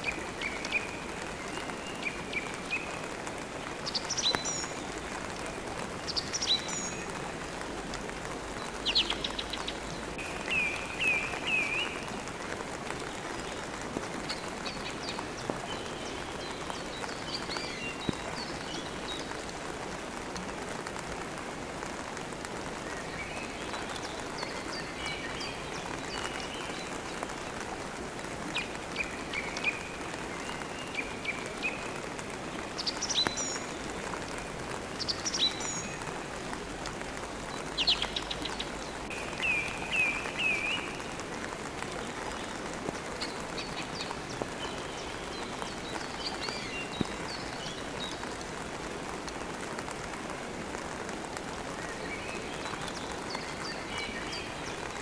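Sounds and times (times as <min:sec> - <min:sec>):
rain hissing: 0:00.0 - 0:55.0
songbirds chirping: 0:00.0 - 0:55.0.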